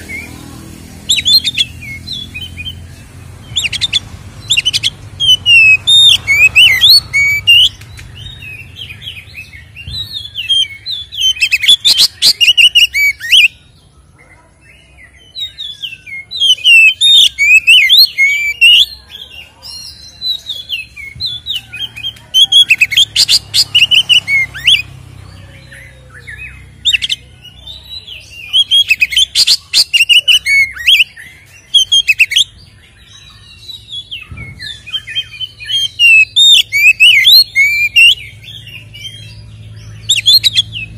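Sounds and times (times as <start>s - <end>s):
bird singing whistled notes: 1.1s - 13.9s, 14.7s - 40.9s.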